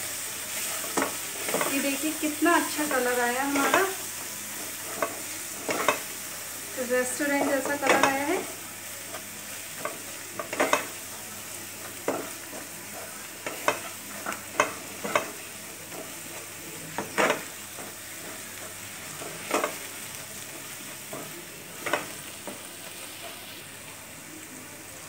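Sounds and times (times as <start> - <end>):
food sizzling: 0.0 - 25.0
spatula scraping and knocking pan: 0.5 - 6.2, 7.0 - 23.5.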